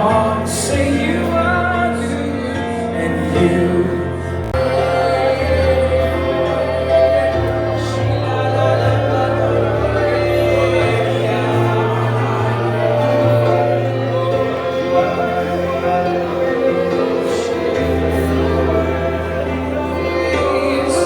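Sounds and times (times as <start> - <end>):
band playing slow gospel song: 0.0 - 21.0
keyboard chords: 0.0 - 21.0
people singing along: 0.0 - 21.0.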